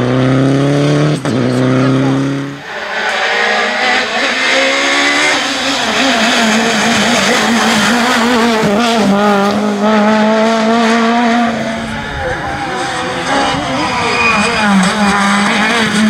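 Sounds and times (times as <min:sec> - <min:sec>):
rally car engine revving past: 0:00.0 - 0:16.0.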